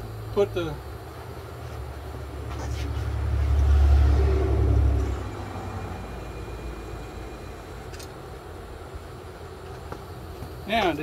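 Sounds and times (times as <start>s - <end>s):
electric actuator rumble: 0.0s - 11.0s
faint steady whine: 0.0s - 11.0s.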